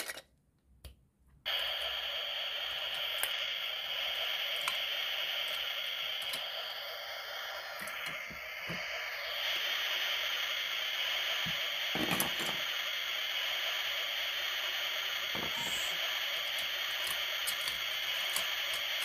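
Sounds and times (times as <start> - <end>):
steady hiss: 1.5 - 19.0.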